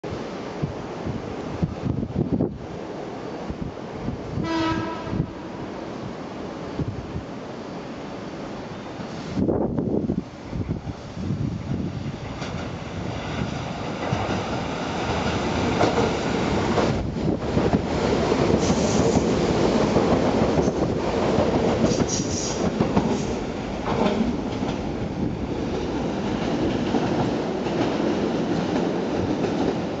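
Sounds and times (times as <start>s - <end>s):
train wheels rolling on rail: 0.1s - 30.0s.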